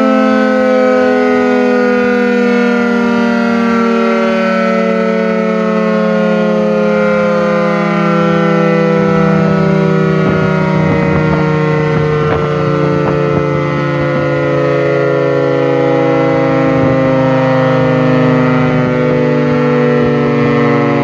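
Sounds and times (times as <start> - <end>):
siren steady tone: 0.0 - 21.0.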